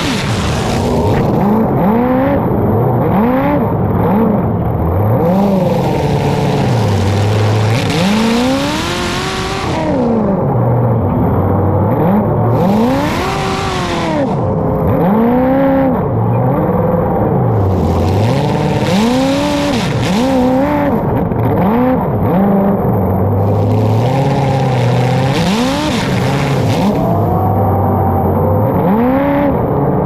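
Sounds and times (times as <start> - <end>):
racing engine revving: 0.0 - 30.0.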